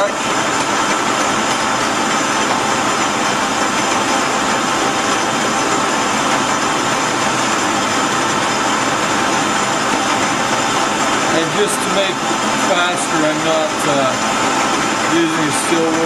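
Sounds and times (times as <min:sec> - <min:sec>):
metal lathe running: 0:00.0 - 0:16.0.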